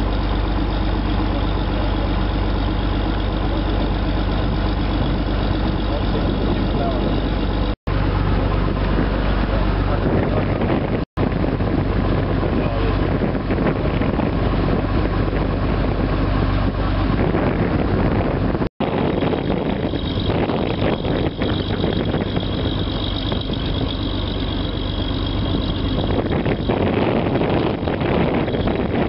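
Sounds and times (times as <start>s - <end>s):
boat engine running: 0.0s - 29.0s
wind noise on microphone: 0.0s - 29.0s.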